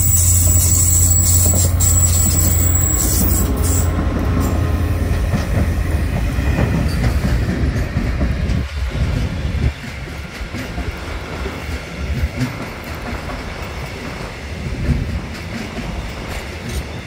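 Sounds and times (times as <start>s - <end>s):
diesel locomotive engine drone: 0.0s - 17.0s
train wheels clattering on rails: 0.0s - 17.0s.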